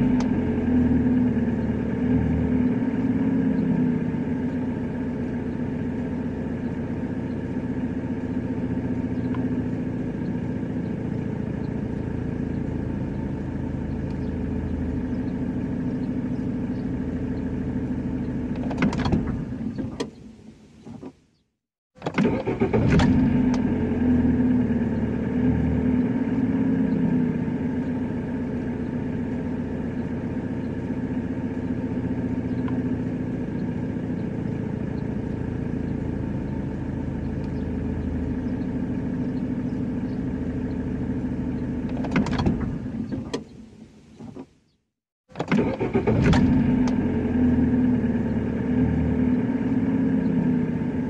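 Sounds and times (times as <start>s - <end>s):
car engine starting and idling: 0.0s - 21.4s, 22.0s - 44.7s, 45.3s - 51.0s.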